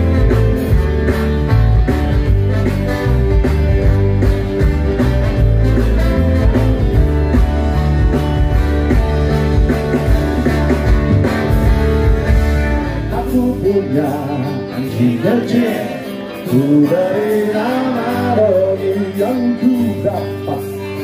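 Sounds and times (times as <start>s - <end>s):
bass: 0.0s - 21.0s
drums: 0.0s - 21.0s
electric guitars: 0.0s - 21.0s
keyboard: 0.0s - 21.0s.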